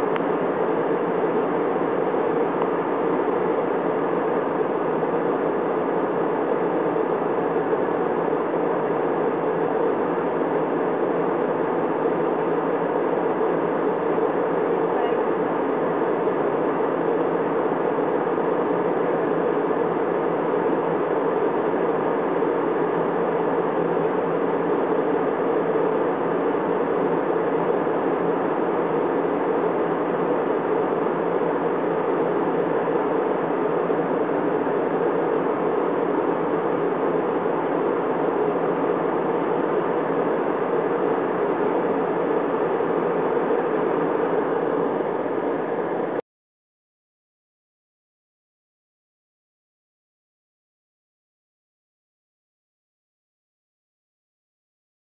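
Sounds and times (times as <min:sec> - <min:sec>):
jet airliner cabin hum: 0:00.0 - 0:46.2.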